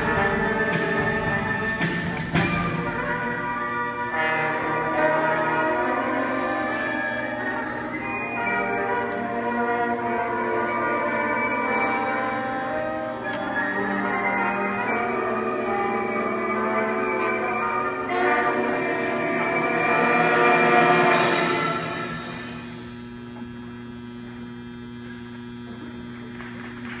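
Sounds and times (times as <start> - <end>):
brass band playing: 0.0 - 23.0
steady hum: 0.0 - 27.0.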